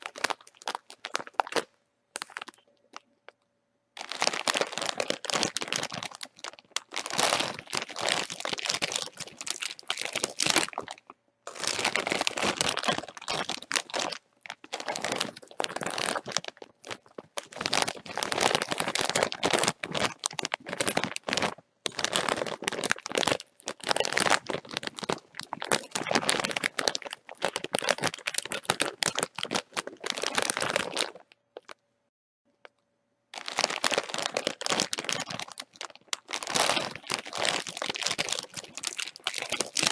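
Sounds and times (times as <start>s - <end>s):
chip bag crinkling: 0.0s - 3.0s, 4.0s - 31.8s, 33.4s - 39.9s.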